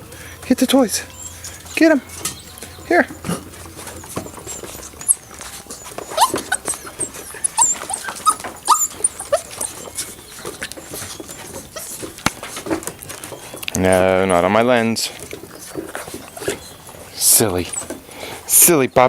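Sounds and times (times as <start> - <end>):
puppies yipping and squeaking: 0.0 - 18.8.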